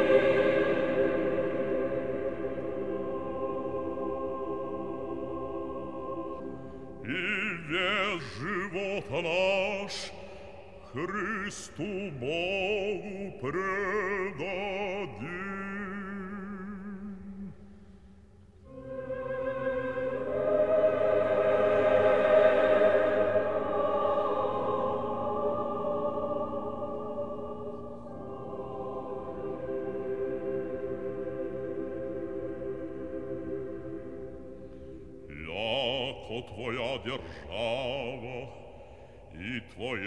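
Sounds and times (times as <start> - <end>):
choir singing chords: 0.0 - 40.0.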